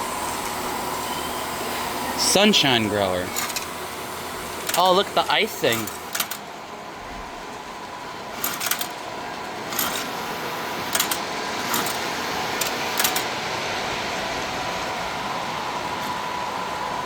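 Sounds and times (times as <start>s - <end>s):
model train running hum: 0.0s - 17.0s.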